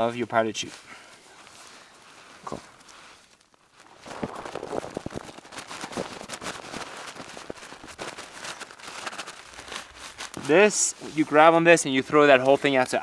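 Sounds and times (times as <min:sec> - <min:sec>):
fabric crinkling and rustling: 0:00.0 - 0:13.0.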